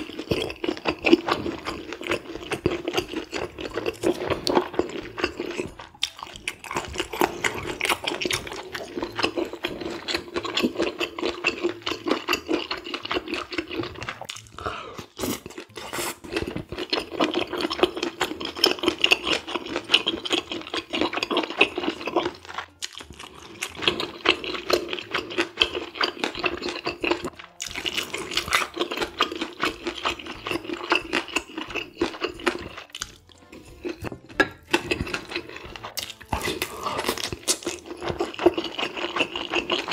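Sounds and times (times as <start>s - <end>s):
wet sticky chewing with mouth clicks: 0.0s - 39.9s.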